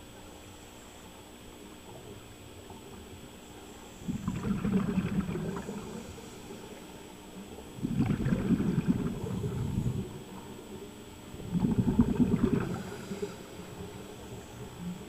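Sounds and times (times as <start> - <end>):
underwater exhaust bubbles: 0.0 - 15.0.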